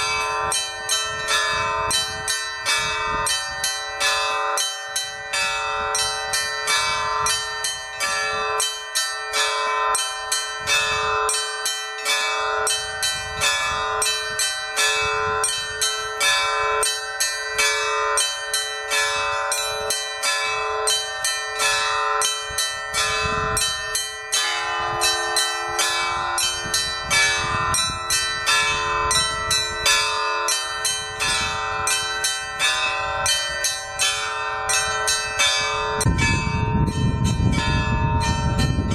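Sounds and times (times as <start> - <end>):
larger bells ringing: 0.0 - 38.9
low bell sounding: 0.0 - 38.9
small church bells struck rapidly: 0.0 - 38.9.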